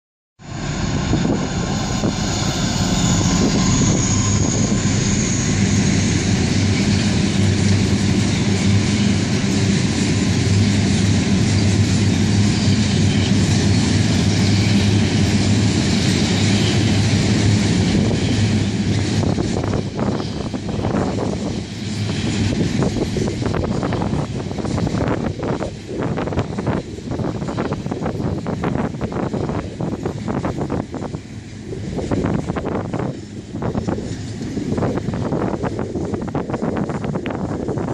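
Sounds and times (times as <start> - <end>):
diesel locomotive engine drone: 0.4 - 37.9
train wagons rumbling over rails: 0.4 - 37.9.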